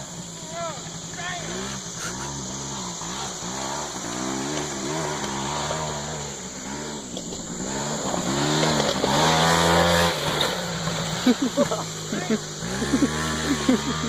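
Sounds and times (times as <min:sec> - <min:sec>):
small atv engine revving: 0:00.0 - 0:14.0.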